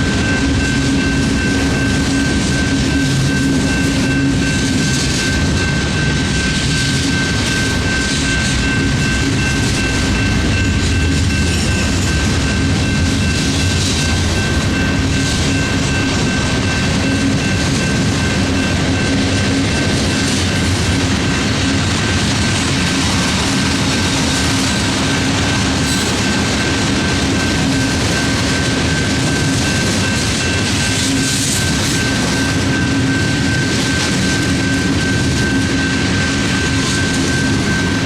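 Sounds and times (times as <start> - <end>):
steady high-pitched tone: 0.0 - 38.0
train wheels rumbling on rails: 0.0 - 38.0.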